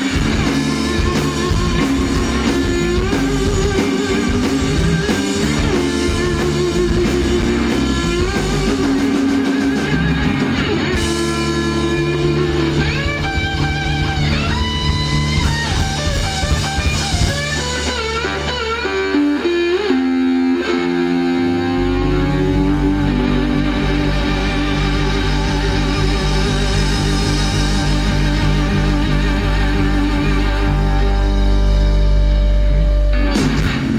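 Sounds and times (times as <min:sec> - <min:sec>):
electric blues band playing: 0:00.0 - 0:33.9
lead guitar bent notes: 0:00.0 - 0:33.9.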